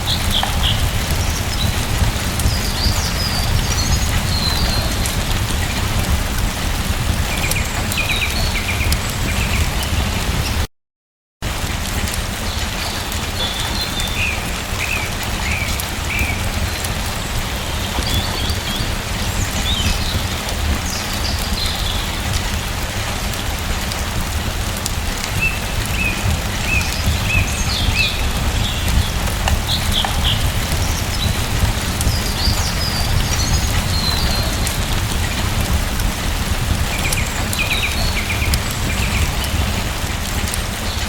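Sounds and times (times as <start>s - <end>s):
small birds chirping: 0.0s - 10.6s, 12.5s - 22.8s, 25.2s - 41.0s
steady rain falling: 0.0s - 10.7s, 11.4s - 41.0s.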